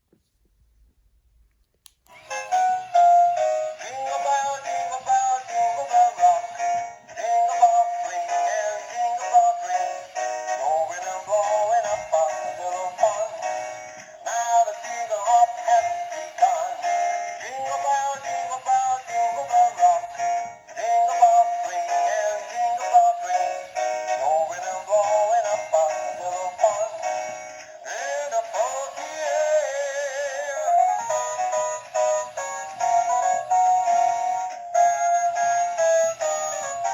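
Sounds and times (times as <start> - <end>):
toy playing song with singing: 2.1 - 36.9.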